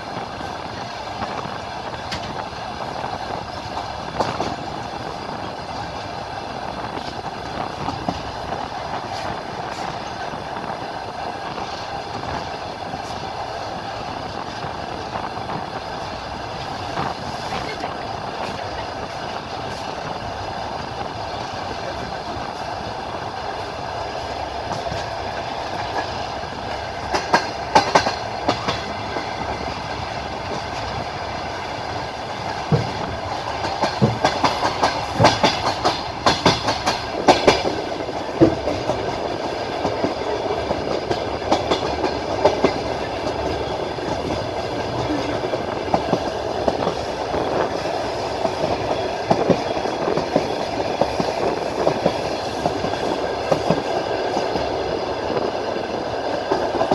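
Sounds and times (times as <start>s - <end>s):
train wheels rumbling on rails: 0.0s - 56.9s
wheels clickety-clack on rail joints: 0.0s - 56.9s.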